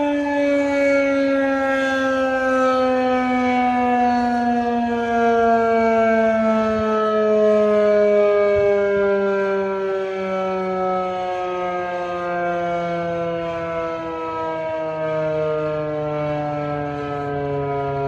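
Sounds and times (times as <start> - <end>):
warning siren gliding downward: 0.0 - 18.0.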